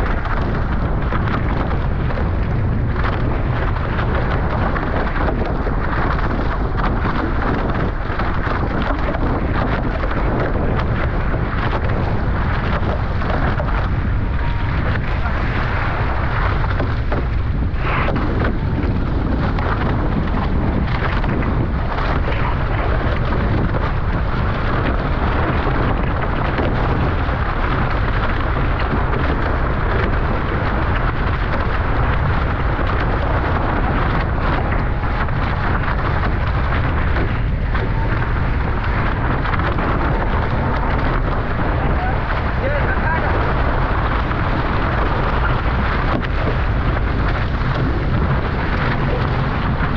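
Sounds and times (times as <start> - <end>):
water rushing past hulls: 0.0 - 49.9
wind buffeting microphone: 0.0 - 49.9.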